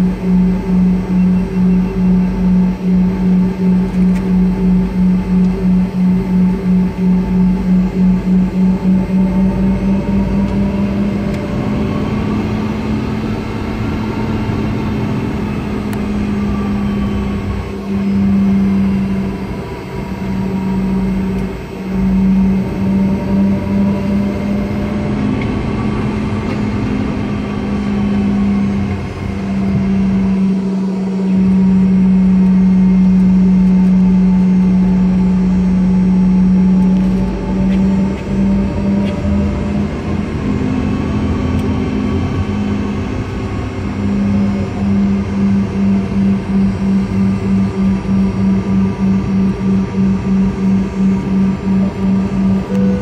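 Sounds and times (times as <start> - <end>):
jet engines droning in cabin: 0.0 - 53.0.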